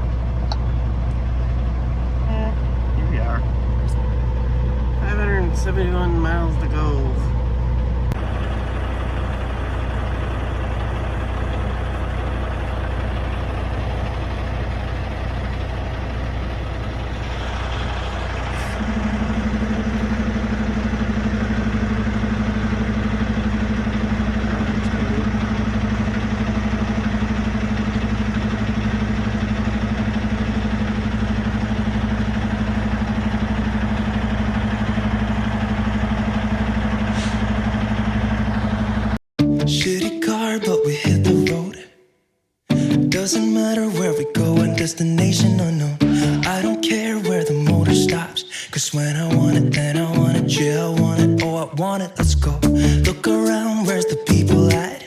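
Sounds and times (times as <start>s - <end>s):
diesel truck engine running: 0.0s - 39.2s, 41.0s - 41.5s, 42.7s - 55.0s.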